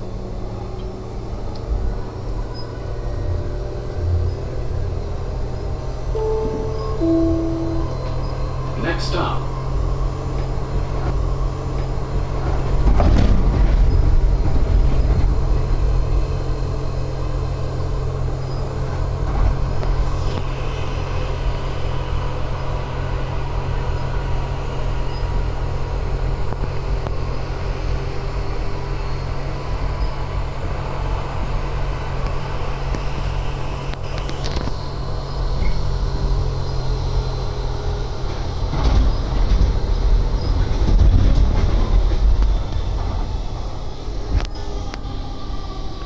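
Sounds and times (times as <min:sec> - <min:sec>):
train rumble inside carriage: 0:00.0 - 0:46.0.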